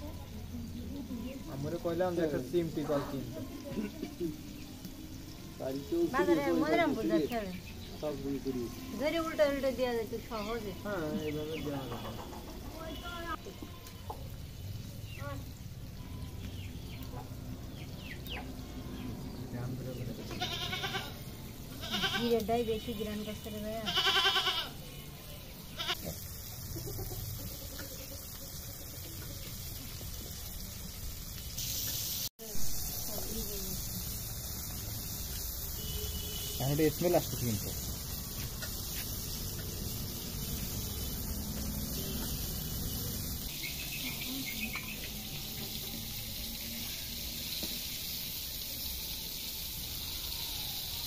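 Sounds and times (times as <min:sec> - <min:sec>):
chicken deep-frying in oil: 0:00.0 - 0:24.0, 0:24.7 - 0:51.0.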